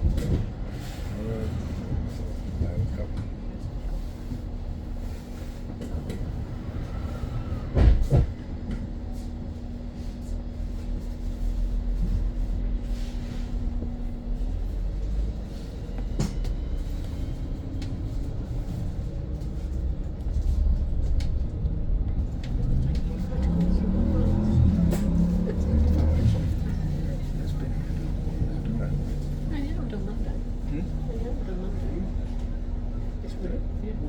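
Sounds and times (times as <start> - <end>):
bus rumble: 0.0 - 34.0.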